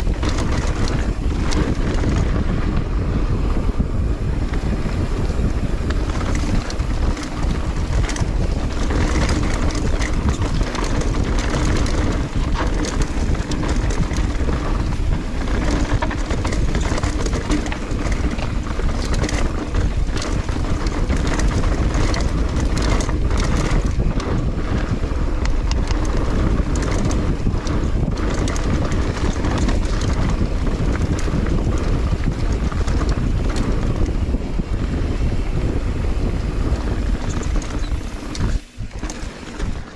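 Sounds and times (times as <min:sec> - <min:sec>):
tyres rolling over dirt: 0:00.0 - 0:03.7, 0:04.3 - 0:39.9
bike rattling and clicking: 0:00.0 - 0:39.9
wind buffeting microphone: 0:00.0 - 0:39.9.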